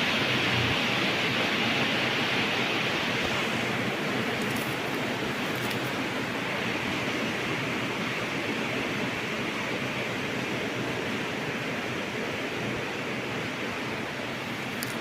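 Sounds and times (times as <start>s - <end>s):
ceiling fan rushing air: 0.0s - 15.0s.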